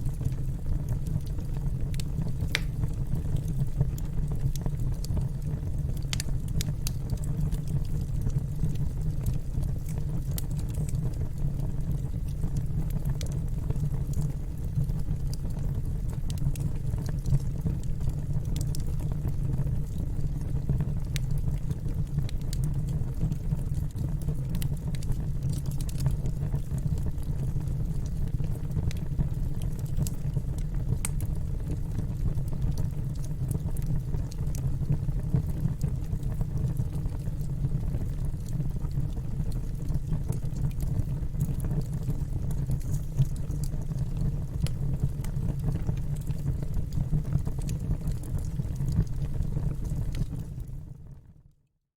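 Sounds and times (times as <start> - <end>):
wood fire crackling: 0.0 - 50.8.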